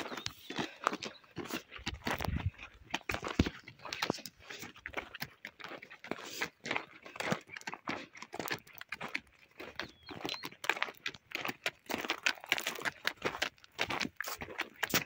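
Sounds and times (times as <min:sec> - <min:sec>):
footsteps on gravel: 0:00.0 - 0:15.0
hooves crunching on gravel: 0:00.0 - 0:15.0.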